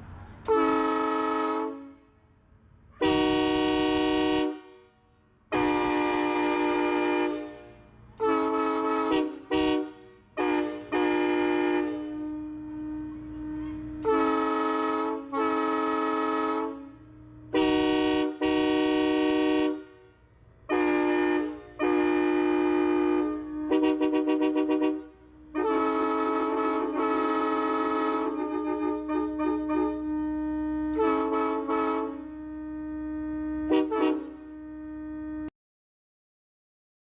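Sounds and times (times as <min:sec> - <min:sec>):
quiet steady horn tone: 0:00.0 - 0:35.5
train horn blasts: 0:00.4 - 0:02.4, 0:03.0 - 0:35.5.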